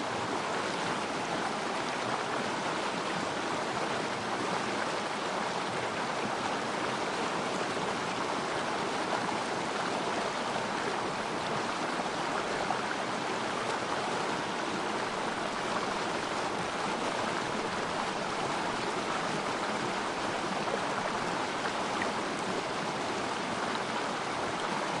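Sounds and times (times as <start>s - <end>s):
stream flowing and burbling: 0.0s - 25.0s.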